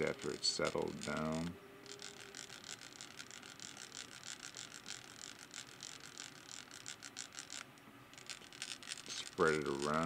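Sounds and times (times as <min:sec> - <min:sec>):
gears ticking and scratching: 0:00.0 - 0:10.0.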